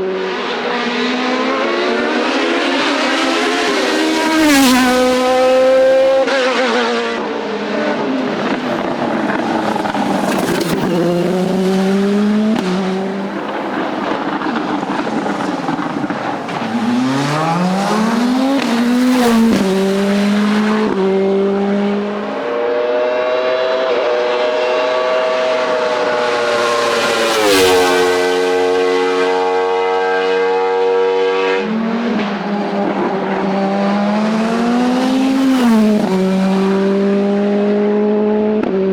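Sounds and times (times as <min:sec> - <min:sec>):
racing car engine revving: 0:00.0 - 0:38.9.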